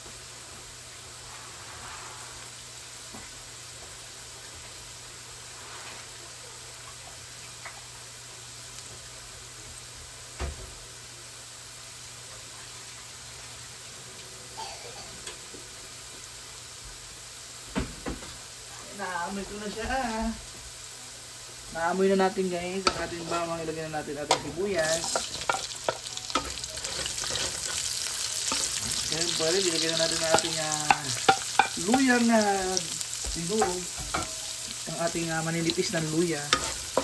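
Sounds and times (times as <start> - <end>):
garlic sizzling in hot oil: 0.0 - 37.0.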